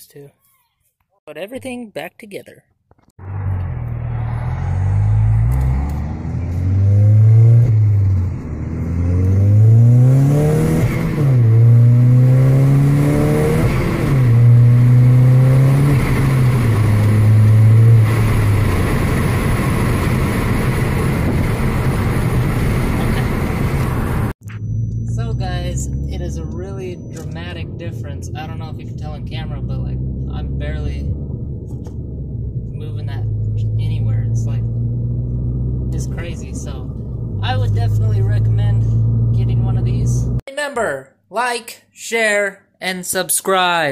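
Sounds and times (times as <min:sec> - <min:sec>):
road rumble: 0:03.0 - 0:40.4
car engine revving through gears: 0:03.2 - 0:40.4.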